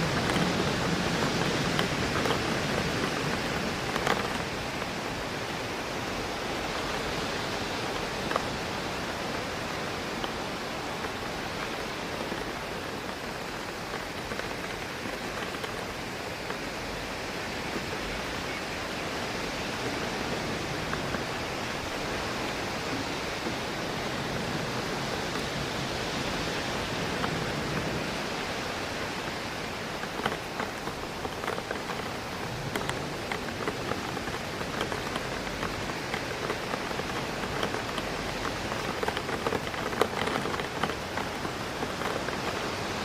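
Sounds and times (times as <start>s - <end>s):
rain hitting a window: 0.0s - 43.0s
wind rushing through trees: 0.0s - 43.0s.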